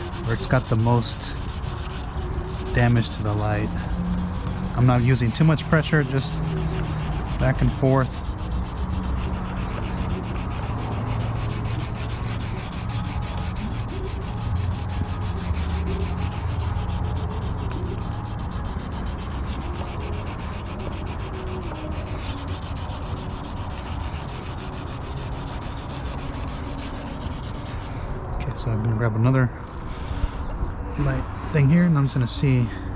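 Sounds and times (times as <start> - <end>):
sandpaper scrubbing plastic: 0.0 - 27.9.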